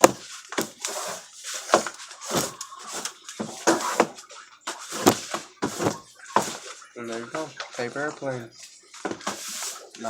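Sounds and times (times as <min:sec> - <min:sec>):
paper rustling and crackling: 0:00.0 - 0:07.9, 0:09.0 - 0:10.0.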